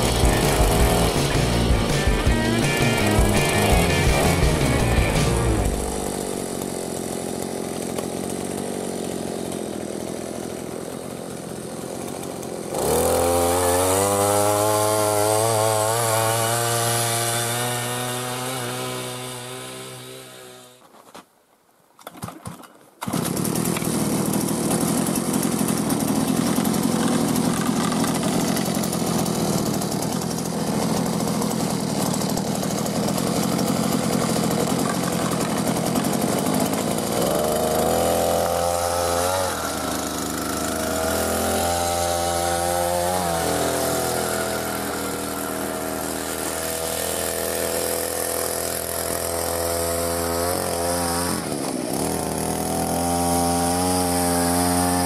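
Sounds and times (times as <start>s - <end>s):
small petrol engine running: 0.0s - 20.8s, 22.2s - 55.0s.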